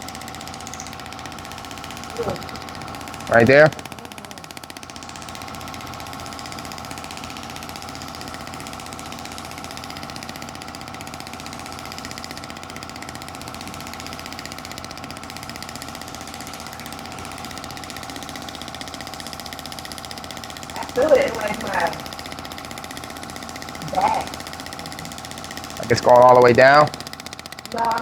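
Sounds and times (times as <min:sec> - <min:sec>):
therapy device rapid pulsing: 0:00.0 - 0:28.0.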